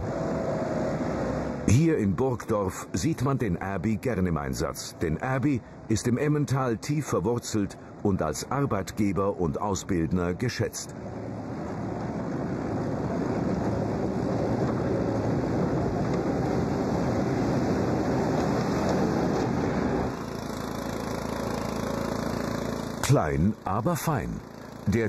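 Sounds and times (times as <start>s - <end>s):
snow blower engine hum: 0.0s - 9.0s, 10.4s - 25.0s
utility vehicle engine and tyres: 0.0s - 25.0s.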